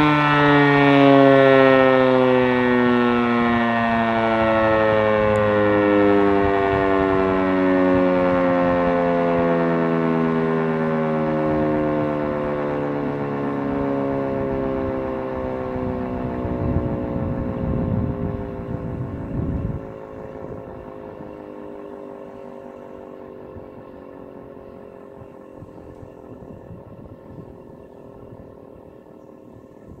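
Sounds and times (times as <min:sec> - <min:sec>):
siren wail winding down: 0:00.0 - 0:30.0.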